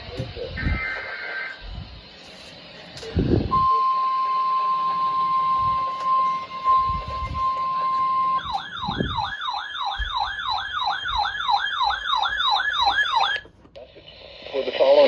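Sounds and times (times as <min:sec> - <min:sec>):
steady warning tone: 0:00.0 - 0:13.5.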